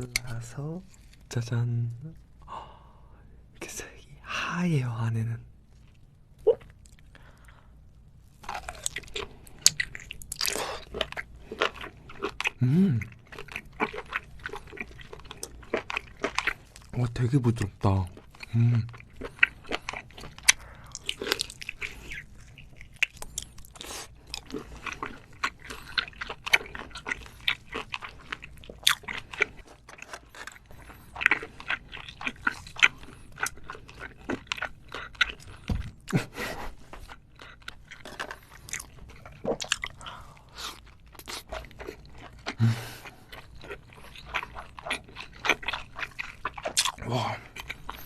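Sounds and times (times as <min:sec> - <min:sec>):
mouth chewing with wet clicks: 0:08.5 - 0:36.1, 0:37.0 - 0:48.0.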